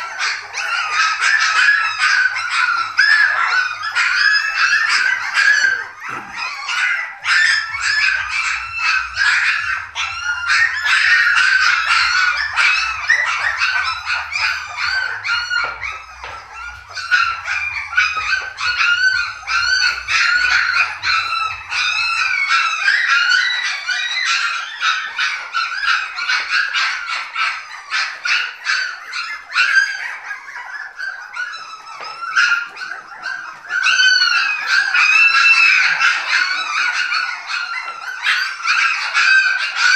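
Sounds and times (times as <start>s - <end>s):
puppies whining and squealing: 0.0s - 39.9s.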